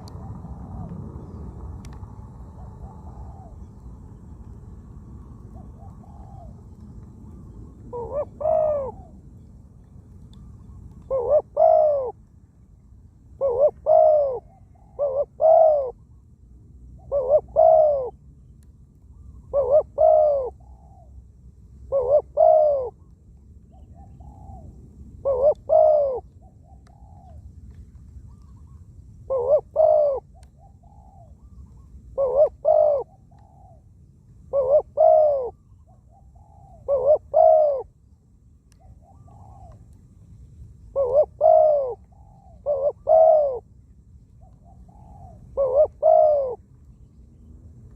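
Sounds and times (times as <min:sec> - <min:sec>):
doves cooing: 0:00.0 - 0:03.9, 0:05.4 - 0:09.3, 0:10.4 - 0:12.2, 0:13.3 - 0:16.0, 0:17.0 - 0:18.2, 0:19.2 - 0:21.3, 0:21.9 - 0:23.1, 0:23.7 - 0:27.5, 0:28.2 - 0:38.0, 0:38.7 - 0:40.2, 0:40.9 - 0:47.6.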